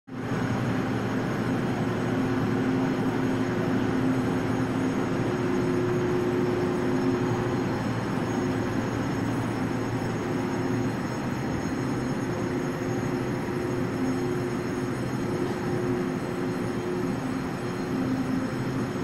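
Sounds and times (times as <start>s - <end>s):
low even hum: 0.2s - 19.0s.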